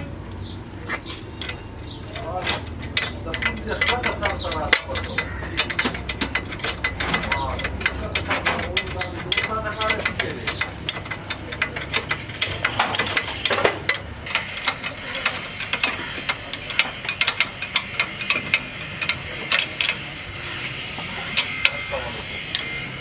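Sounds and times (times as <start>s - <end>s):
hand tools clicking on metal: 0.0s - 23.0s
low background hum: 0.0s - 23.0s.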